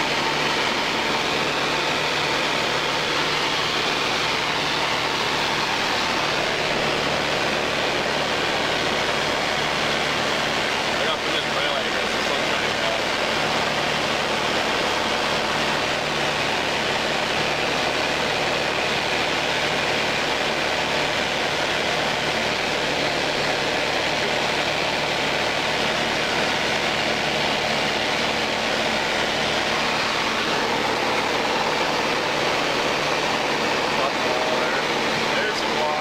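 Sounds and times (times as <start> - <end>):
propeller aircraft engine drone: 0.0 - 36.0.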